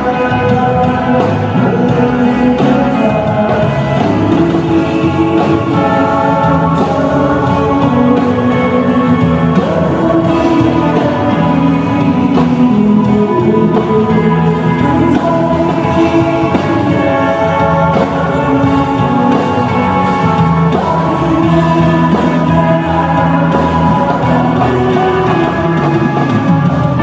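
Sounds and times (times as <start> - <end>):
live pop-rock band playing: 0.0 - 27.0
man singing: 0.0 - 27.0.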